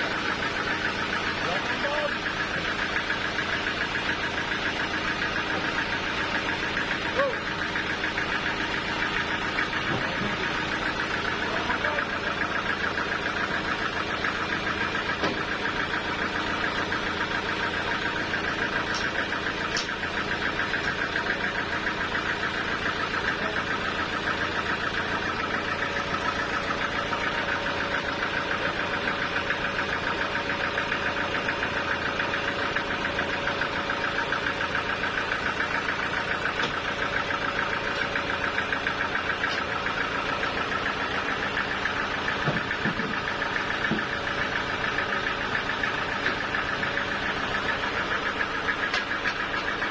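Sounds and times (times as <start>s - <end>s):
sawmill engine throbbing: 0.0s - 49.9s.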